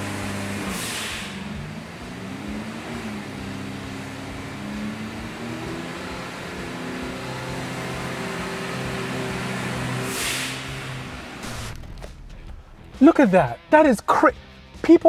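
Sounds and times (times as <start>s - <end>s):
turbocharged car engine under load: 0.0s - 13.6s.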